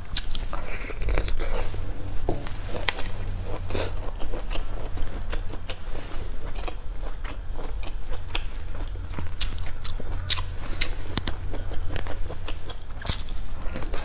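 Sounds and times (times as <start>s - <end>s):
crunchy chewing of food: 0.0s - 14.0s
steady low hum: 0.0s - 14.0s.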